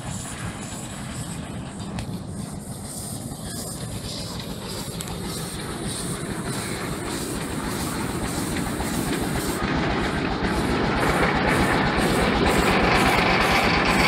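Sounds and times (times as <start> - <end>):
miniature steam locomotive: 0.0 - 14.0.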